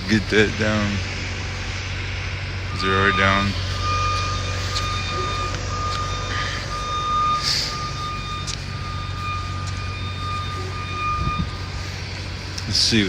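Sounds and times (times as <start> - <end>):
backup alarm beeping: 0.0 - 13.0
heavy vehicle engine running: 0.0 - 13.0.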